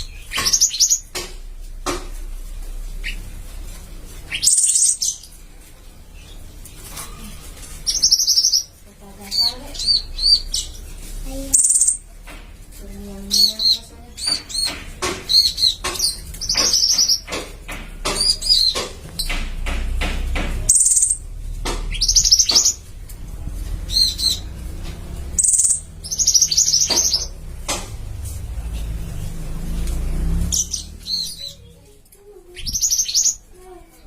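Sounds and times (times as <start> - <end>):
songbirds chirping and trilling: 0.0 - 34.0.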